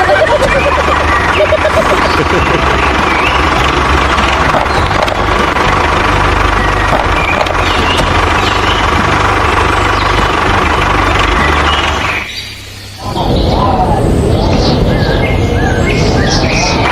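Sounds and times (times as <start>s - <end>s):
vehicle engine running: 0.0s - 16.9s.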